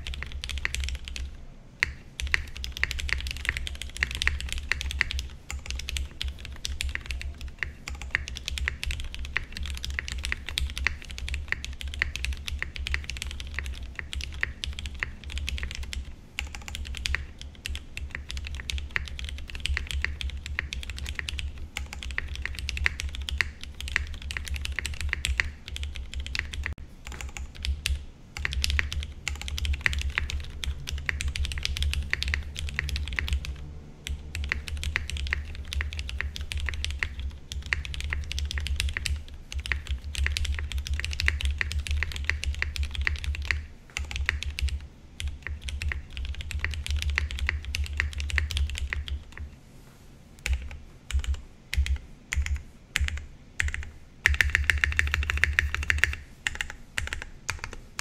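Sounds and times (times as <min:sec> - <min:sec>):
mechanical keyboard typing: 0:00.0 - 0:49.5, 0:50.4 - 0:58.0.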